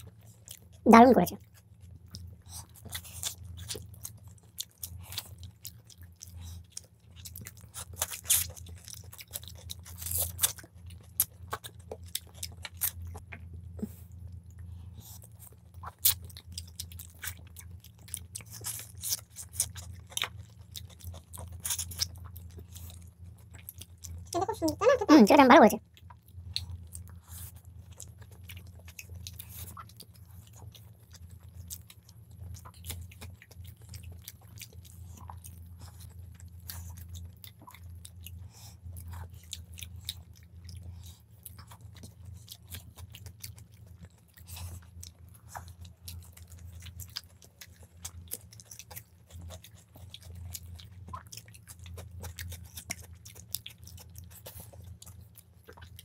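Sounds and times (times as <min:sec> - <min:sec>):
chewing and mouth clicks: 0:00.0 - 0:25.1, 0:25.8 - 0:56.0
steady low hum: 0:00.0 - 0:56.0.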